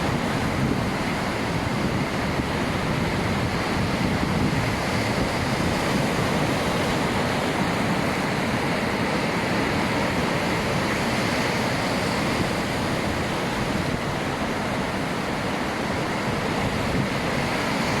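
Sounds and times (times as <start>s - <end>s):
heavy ocean surf: 0.0s - 18.0s.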